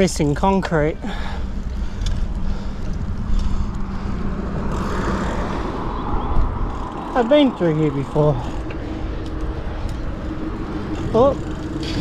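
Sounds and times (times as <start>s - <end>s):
bike tyres rolling on wet path: 1.1s - 12.0s
wind rumble on microphone: 1.8s - 12.0s.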